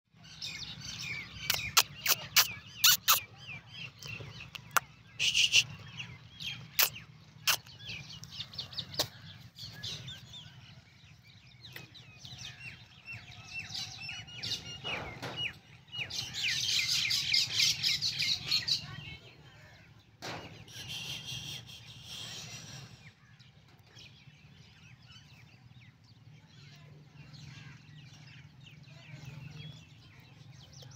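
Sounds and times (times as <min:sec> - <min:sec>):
birds chirping: 0:00.1 - 0:30.9.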